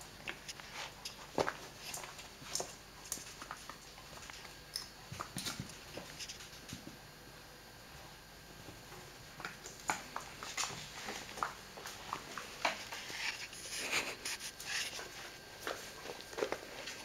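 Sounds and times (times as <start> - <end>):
paws and toy clicks and rustles: 0.1 - 7.0, 8.9 - 17.0.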